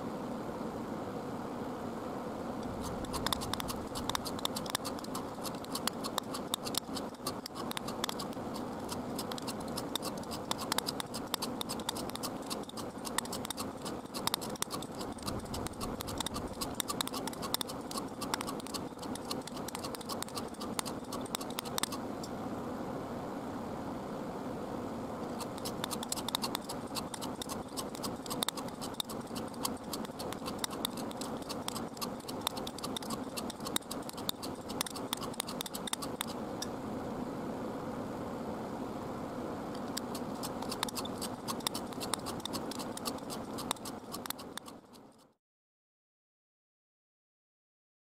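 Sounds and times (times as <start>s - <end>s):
steady low hum: 0.0s - 45.3s.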